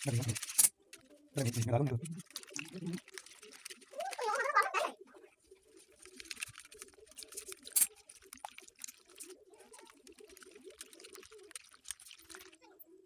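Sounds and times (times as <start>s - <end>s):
egg sloshing: 0.0s - 13.0s.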